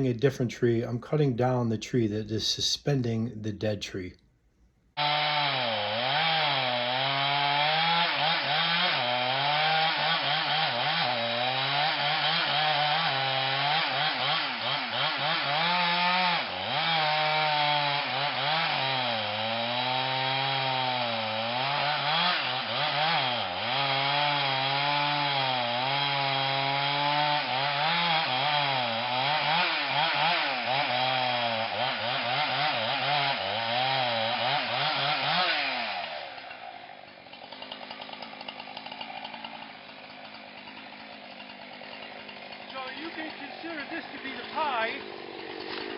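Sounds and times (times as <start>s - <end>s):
chainsaw cutting wood: 5.0s - 45.9s.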